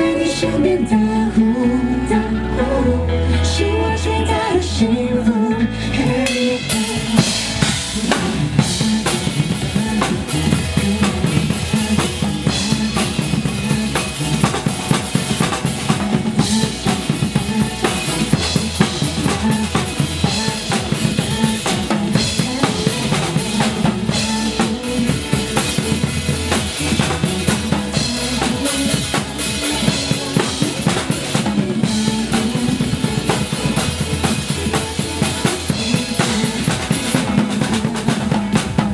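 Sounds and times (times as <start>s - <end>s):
pop backing track: 0.0s - 38.9s
drum kit playing: 6.0s - 38.9s.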